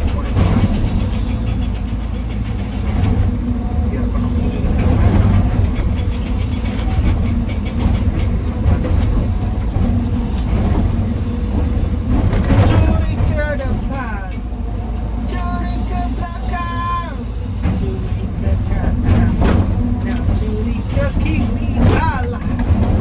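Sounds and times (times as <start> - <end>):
excavator engine rumbling: 0.0 - 23.0.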